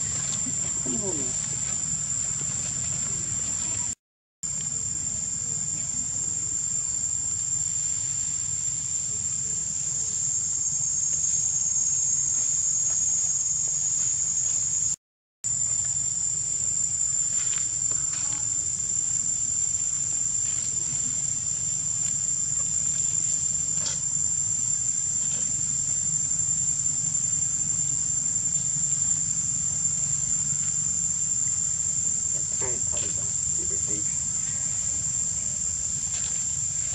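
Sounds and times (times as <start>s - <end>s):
insect chorus buzzing: 0.0s - 36.9s.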